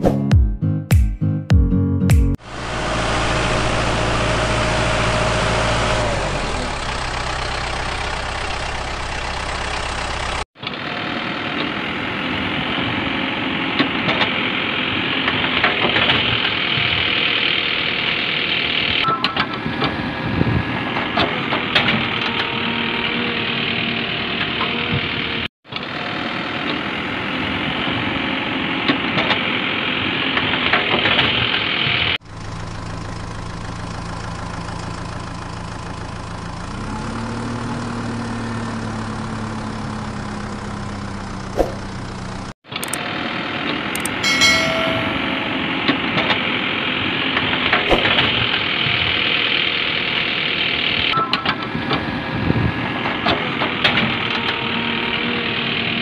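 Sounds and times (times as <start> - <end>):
engine running steadily: 2.4 - 56.0.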